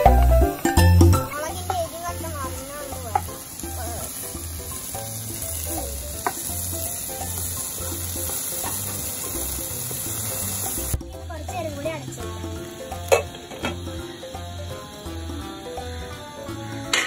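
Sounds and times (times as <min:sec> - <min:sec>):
okra sizzling in pan: 0:00.0 - 0:17.0.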